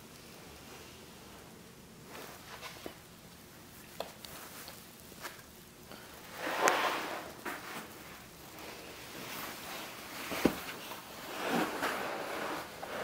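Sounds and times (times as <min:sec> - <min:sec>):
soft rustling: 0:00.0 - 0:13.0.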